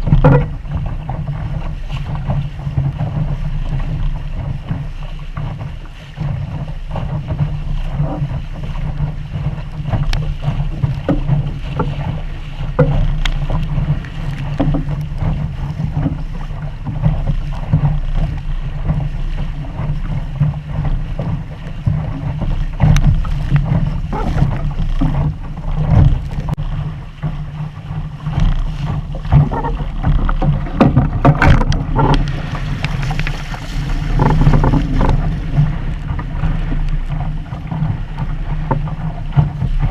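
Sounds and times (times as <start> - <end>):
water slapping against hull: 0.0 - 39.9
wind buffeting microphone: 0.0 - 39.9.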